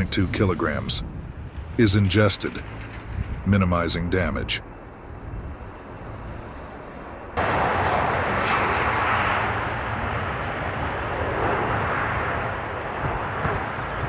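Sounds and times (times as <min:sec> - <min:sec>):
airplane engine rush: 0:00.0 - 0:14.0.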